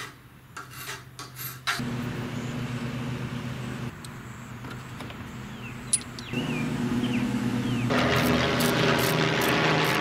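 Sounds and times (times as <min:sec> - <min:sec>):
steady motor hum: 0:01.8 - 0:10.0.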